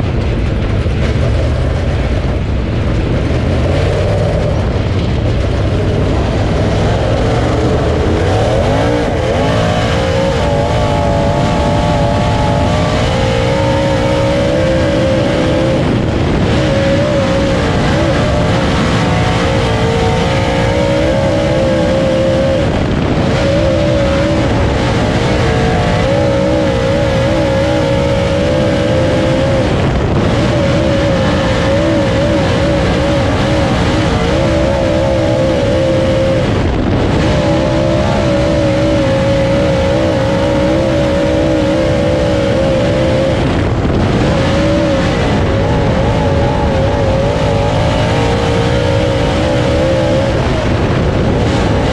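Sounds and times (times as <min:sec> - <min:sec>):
race car engine revving: 0:00.0 - 0:51.9
rush of noise: 0:00.0 - 0:51.9.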